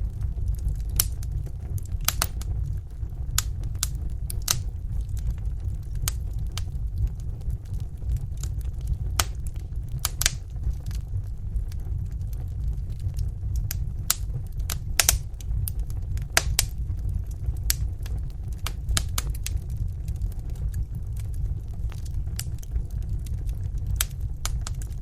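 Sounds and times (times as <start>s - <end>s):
fire crackling and popping: 0.0s - 25.0s
low fire rumble: 0.0s - 25.0s.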